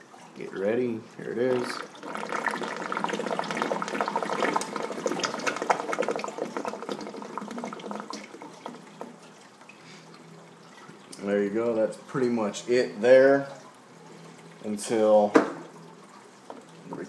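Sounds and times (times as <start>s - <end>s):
drain gurgling and sucking air: 0.0s - 17.0s.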